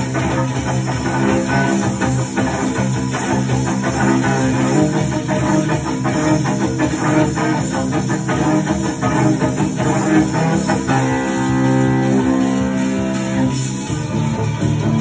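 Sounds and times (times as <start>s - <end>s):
bowed cello: 0.0s - 13.8s.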